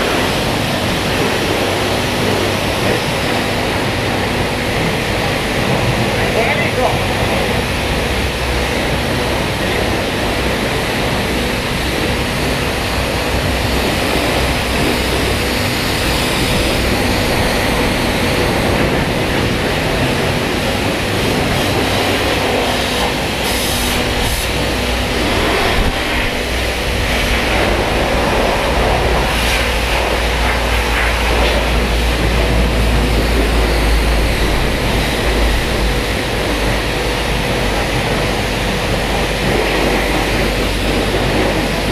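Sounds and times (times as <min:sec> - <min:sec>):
high-pressure water jet spraying: 0:00.0 - 0:41.9
low hum: 0:00.0 - 0:41.9.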